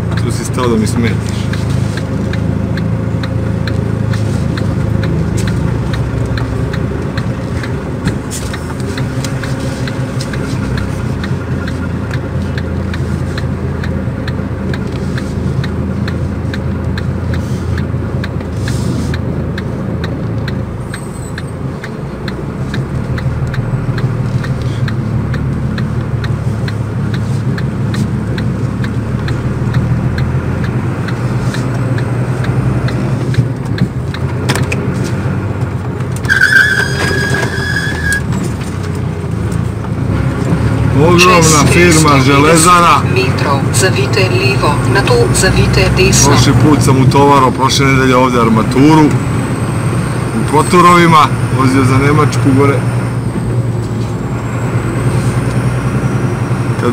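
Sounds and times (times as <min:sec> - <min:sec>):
truck diesel engine from cab: 0:00.0 - 0:56.9.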